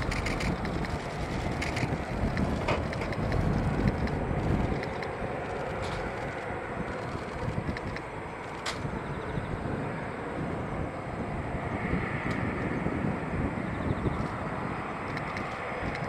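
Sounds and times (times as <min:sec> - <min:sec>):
jet engines taxiing: 0:00.0 - 0:16.0.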